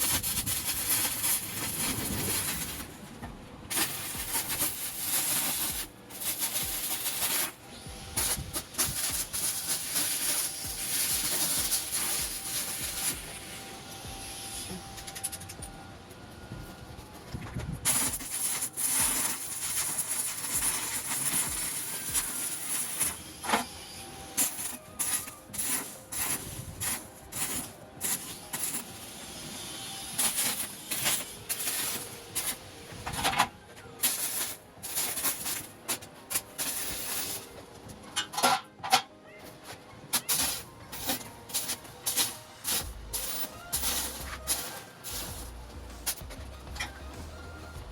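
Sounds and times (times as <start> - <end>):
welding arc crackling and hissing: 0.0 - 15.7, 17.8 - 37.7, 40.1 - 47.9.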